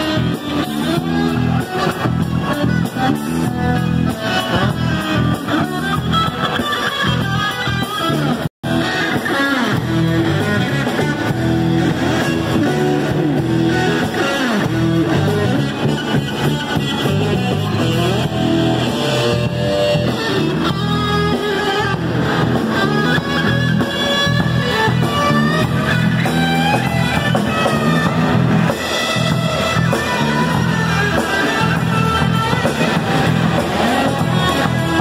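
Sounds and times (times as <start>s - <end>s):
bass guitar: 0.0s - 35.0s
drum kit: 0.0s - 35.0s
electric guitar: 0.0s - 35.0s.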